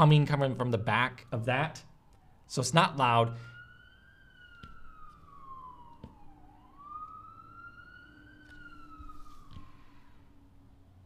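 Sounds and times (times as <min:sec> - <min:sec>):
faint siren wailing: 0:00.0 - 0:11.0.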